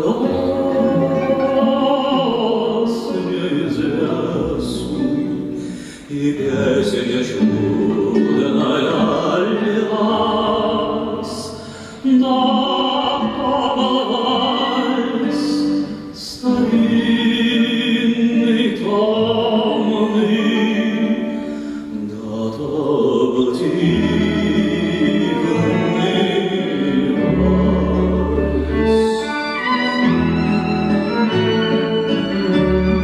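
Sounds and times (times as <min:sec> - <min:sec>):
man singing: 0:00.0 - 0:29.8
cello: 0:00.0 - 0:33.0
guitar: 0:00.0 - 0:33.0
violin: 0:00.0 - 0:33.0.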